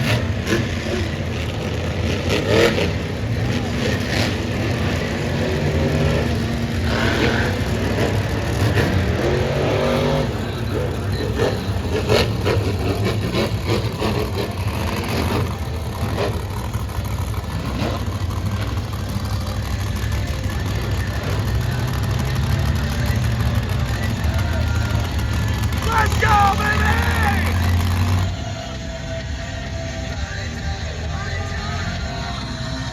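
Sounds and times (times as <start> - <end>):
truck engines revving loudly: 0.0 - 32.9.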